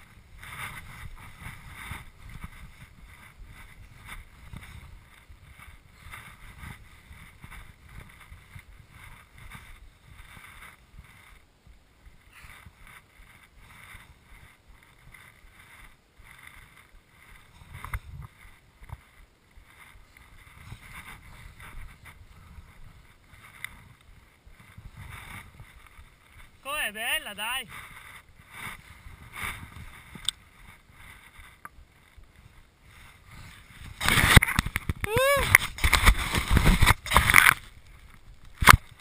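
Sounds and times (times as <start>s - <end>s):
skis swishing through snow: 0.0s - 39.0s.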